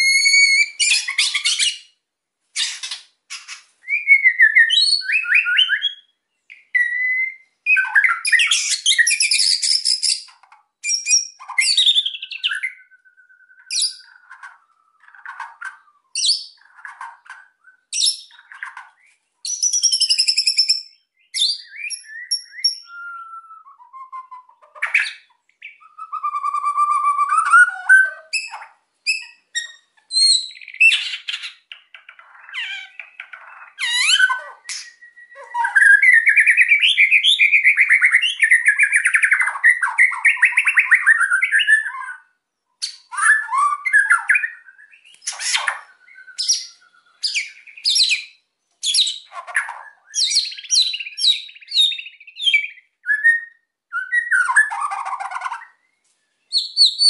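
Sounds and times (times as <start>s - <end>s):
songbird singing: 0.0s - 2.0s, 2.6s - 57.0s.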